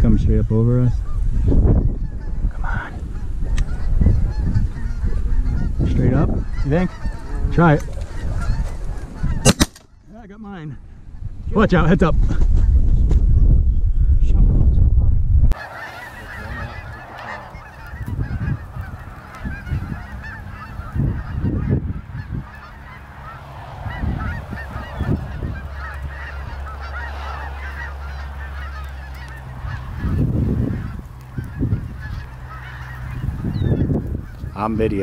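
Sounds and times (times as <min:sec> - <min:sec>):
geese honking: 0:00.9 - 0:10.0, 0:15.5 - 0:35.0.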